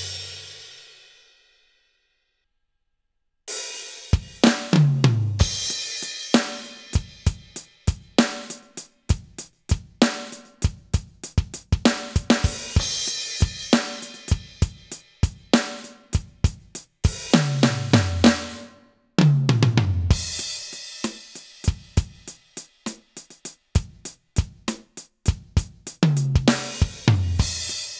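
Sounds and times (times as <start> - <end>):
electronic drum kit rock groove: 0.0 - 0.5, 3.5 - 27.9.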